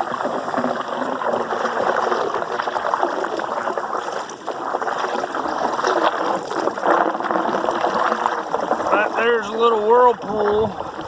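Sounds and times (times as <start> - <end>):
floodwater rushing and gurgling: 0.0 - 11.0.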